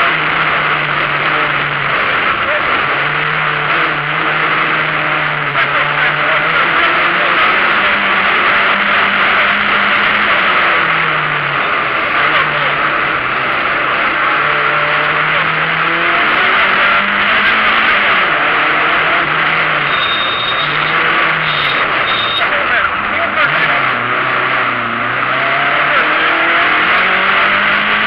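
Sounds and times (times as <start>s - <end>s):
rally car engine revving: 0.0s - 28.0s
road and wind noise: 0.0s - 28.0s.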